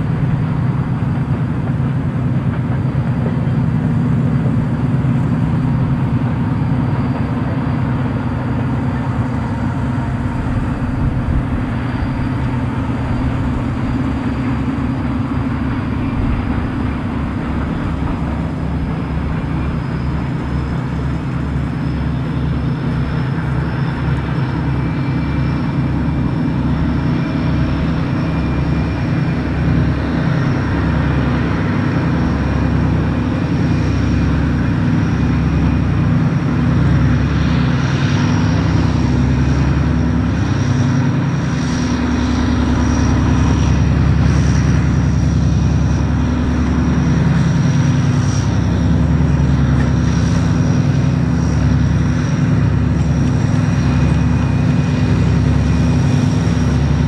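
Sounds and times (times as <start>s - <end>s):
locomotive diesel engine drone: 0.0s - 57.0s.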